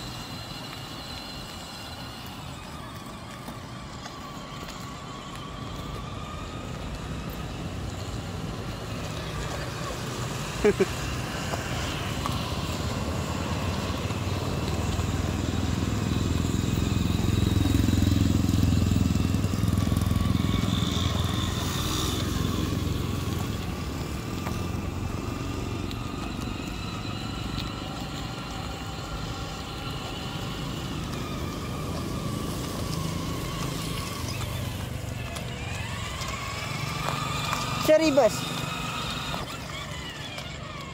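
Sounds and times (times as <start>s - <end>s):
small electric motors whining: 0.0s - 40.9s
wheels rumbling on asphalt: 0.0s - 40.9s.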